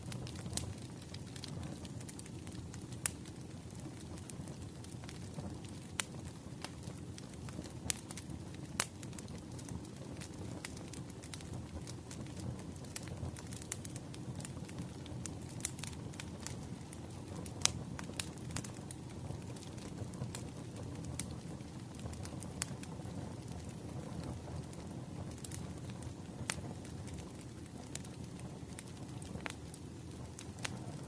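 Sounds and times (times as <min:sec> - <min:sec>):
firewood crackling and popping: 0:00.0 - 0:31.0
low rumble of flames: 0:00.0 - 0:31.0.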